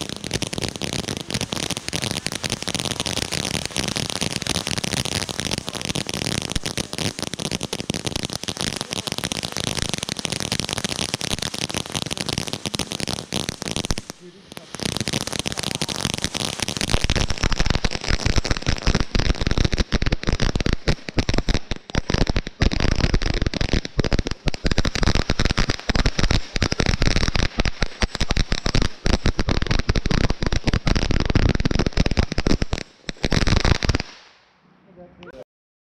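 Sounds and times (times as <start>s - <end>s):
rapid crackling: 0.0s - 33.4s
firework fountain hissing: 0.0s - 34.4s.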